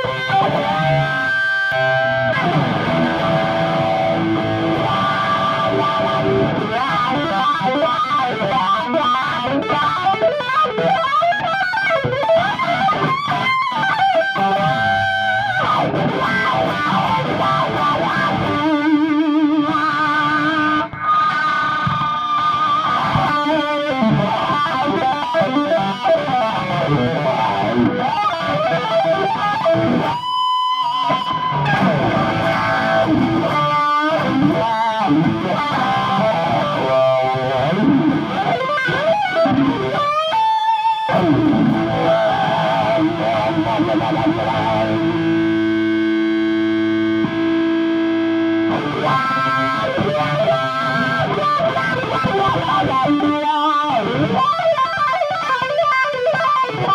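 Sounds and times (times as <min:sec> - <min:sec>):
distorted electric guitar with wah: 0:00.0 - 0:56.9.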